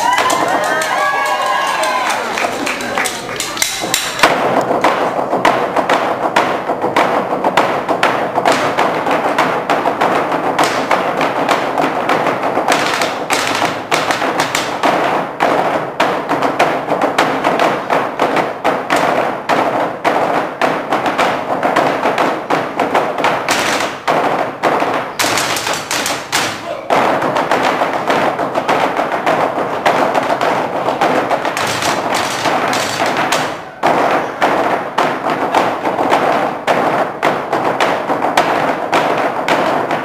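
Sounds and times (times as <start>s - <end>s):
drumsticks beating on wooden tables: 0.0s - 40.0s.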